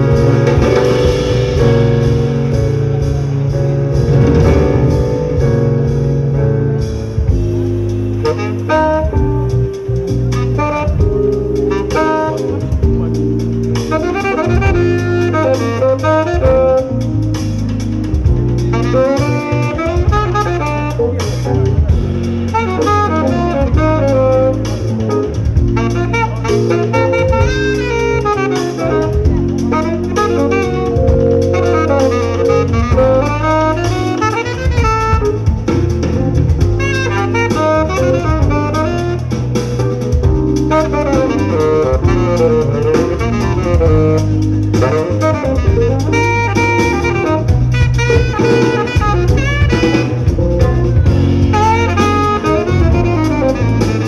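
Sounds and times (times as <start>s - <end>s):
drum kit: 0.0s - 54.0s
electric bass guitar: 0.0s - 54.0s
keyboard: 0.0s - 54.0s
saxophone: 0.0s - 54.0s.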